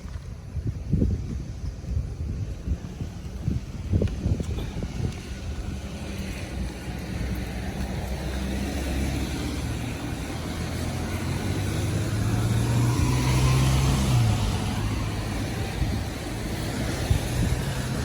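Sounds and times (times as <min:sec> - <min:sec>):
road vehicle passing: 0:02.8 - 0:18.0.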